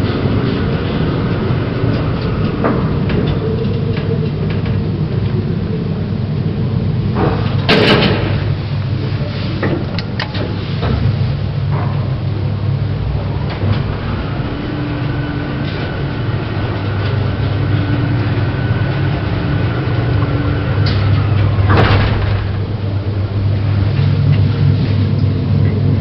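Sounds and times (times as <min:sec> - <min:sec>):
lift door noise: 0:00.0 - 0:26.0
lift hum with faint whine: 0:00.0 - 0:26.0.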